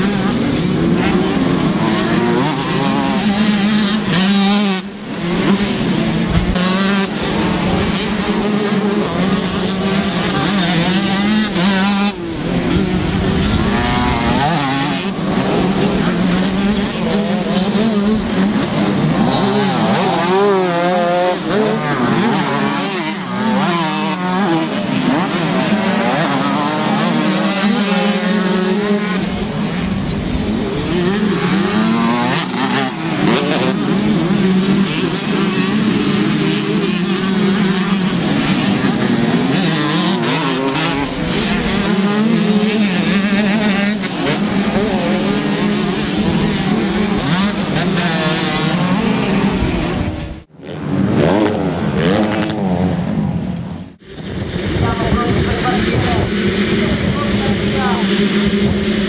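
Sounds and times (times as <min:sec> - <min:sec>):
motocross bikes revving hard: 0:00.0 - 0:59.0.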